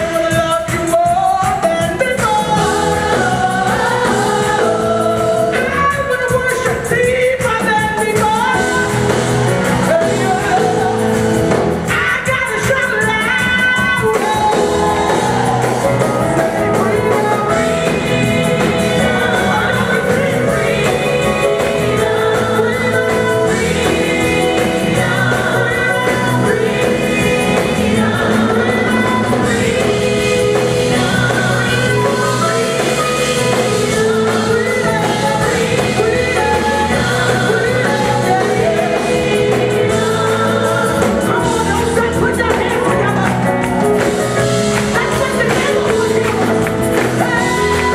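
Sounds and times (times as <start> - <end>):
gospel singers with band: 0.0 - 47.9.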